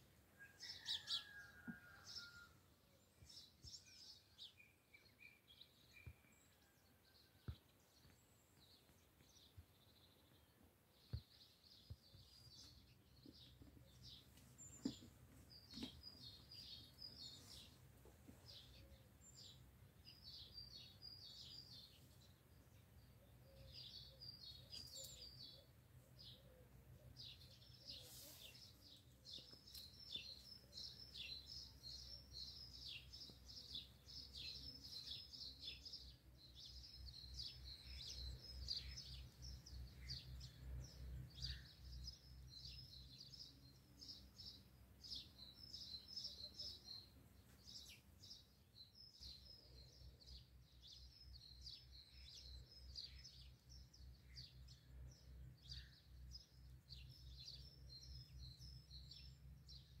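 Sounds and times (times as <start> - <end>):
small birds chirping: 0.0 - 2.4, 3.0 - 60.0.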